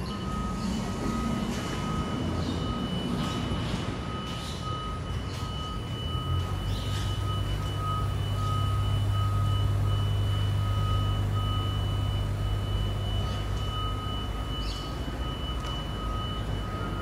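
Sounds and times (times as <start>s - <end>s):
low truck hum: 0.0s - 17.0s
reversing alarm beeps: 0.0s - 17.0s.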